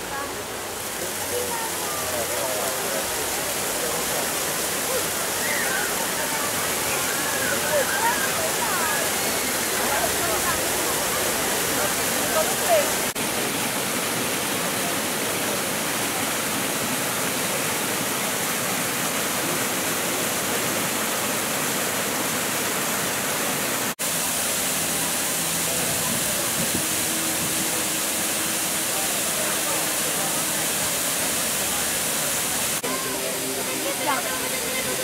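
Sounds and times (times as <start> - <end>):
water rushing down a cascade: 0.0 - 35.0.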